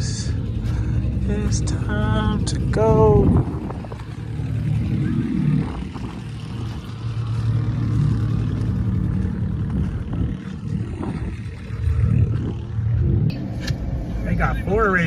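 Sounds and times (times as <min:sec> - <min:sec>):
vehicle engine pulling away: 0:00.0 - 0:15.0.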